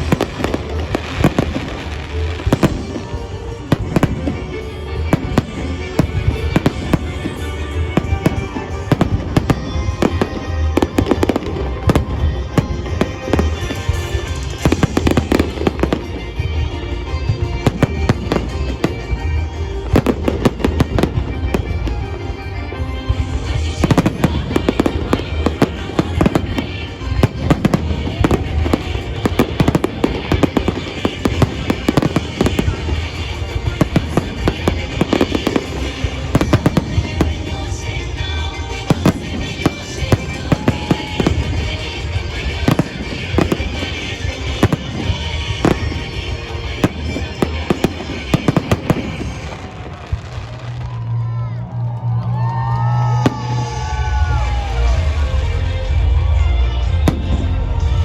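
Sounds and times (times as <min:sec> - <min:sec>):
fireworks bursting and crackling: 0:00.0 - 0:58.0
music playing: 0:00.0 - 0:58.0.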